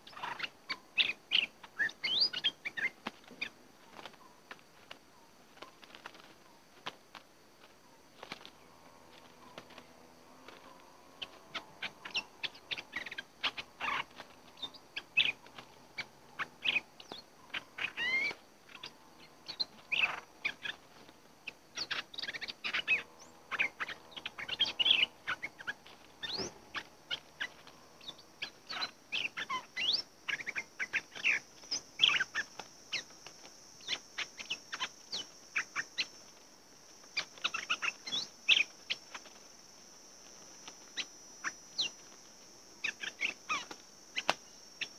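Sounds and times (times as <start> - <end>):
birds chirping: 0.0 - 6.7, 7.8 - 44.9.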